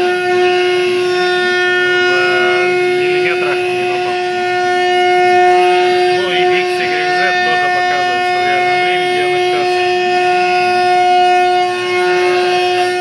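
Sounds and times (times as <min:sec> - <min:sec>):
cnc router whine: 0:00.0 - 0:13.0
wavering short tones: 0:00.0 - 0:13.0.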